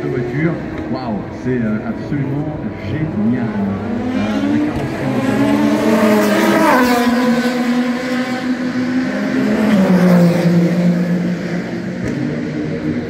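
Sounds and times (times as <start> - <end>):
race car engine: 0.0 - 13.0.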